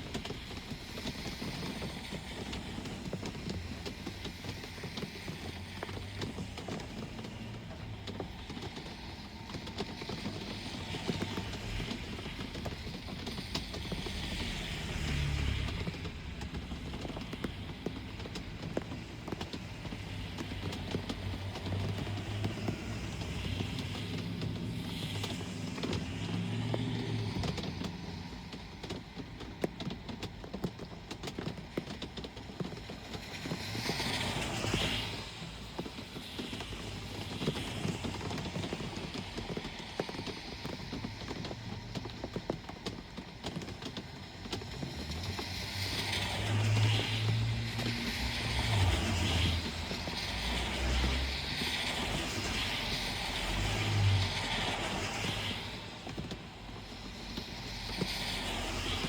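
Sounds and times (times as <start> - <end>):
rain falling: 0.0 - 59.0
tyres hissing on wet road: 0.0 - 59.0
vehicle engines running low: 0.0 - 59.0.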